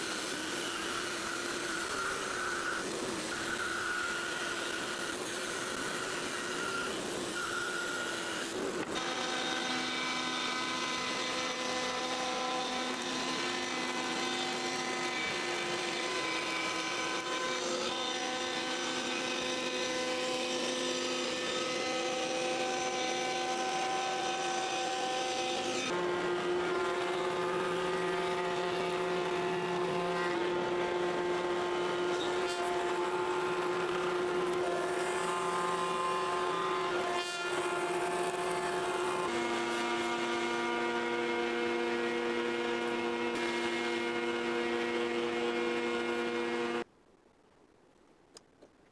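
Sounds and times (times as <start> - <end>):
bandsaw whine: 0.0 - 46.8
router table whine: 0.0 - 46.9
table saw whine: 0.0 - 46.9.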